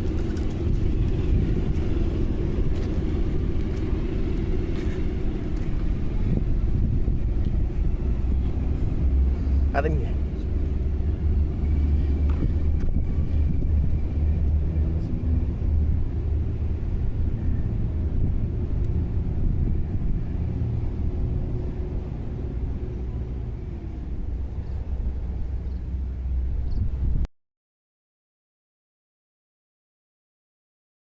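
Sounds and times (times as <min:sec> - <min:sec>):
faint gear whine: 0:00.0 - 0:27.2
low motor rumble: 0:00.0 - 0:27.3.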